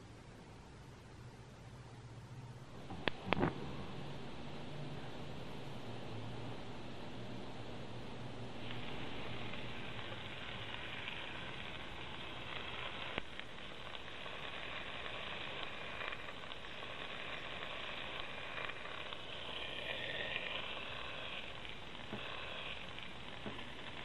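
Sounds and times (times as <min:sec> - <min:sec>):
chicken sizzling in a pot: 0:02.7 - 0:24.0.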